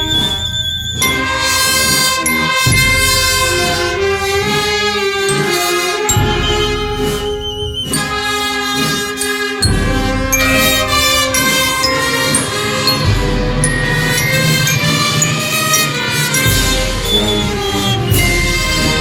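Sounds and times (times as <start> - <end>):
brass band playing funeral march: 0.0 - 19.0.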